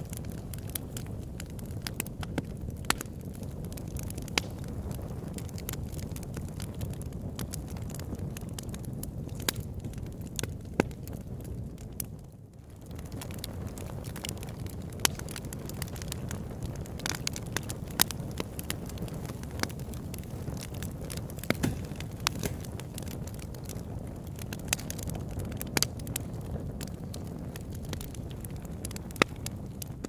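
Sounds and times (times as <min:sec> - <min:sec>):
log fire crackling and popping: 0:00.0 - 0:30.0
low fire rumble: 0:00.0 - 0:30.0.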